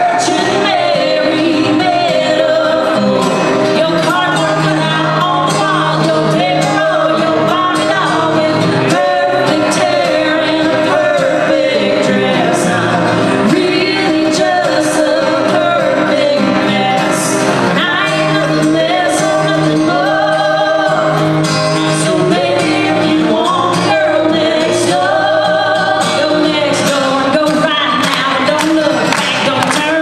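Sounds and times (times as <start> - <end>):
strummed acoustic guitars: 0.0 - 30.0
woman singing: 0.0 - 30.0.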